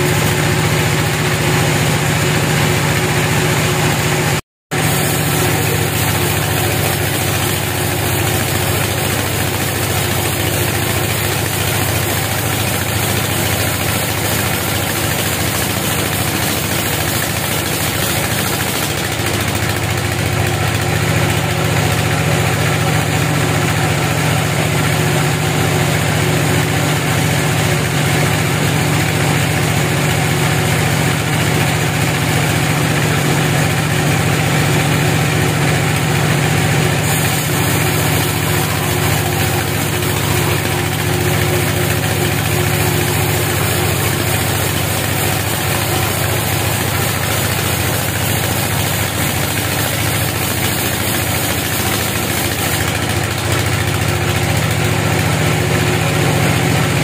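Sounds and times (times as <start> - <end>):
band saw cutting log: 0.0 - 54.7.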